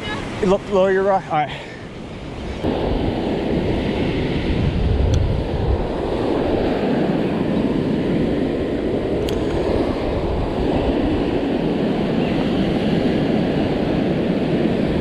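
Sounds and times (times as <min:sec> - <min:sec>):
surf washing up beach: 0:00.0 - 0:15.0
wind rumbling on microphone: 0:01.9 - 0:15.0.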